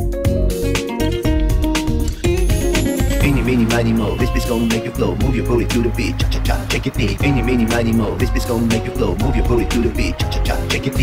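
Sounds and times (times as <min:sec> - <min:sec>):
song with drum beat and bass: 0:00.0 - 0:11.0.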